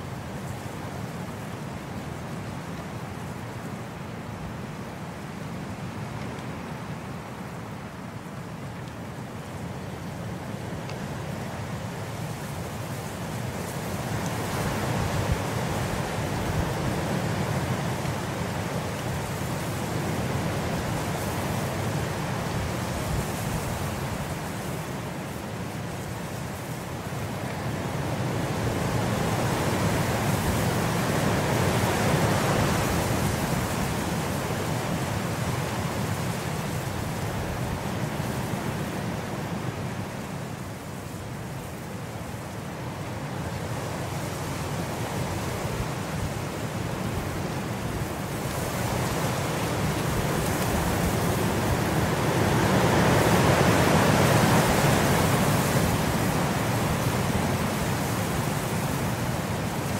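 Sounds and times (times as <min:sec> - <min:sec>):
rain hiss: 0:00.0 - 0:59.9.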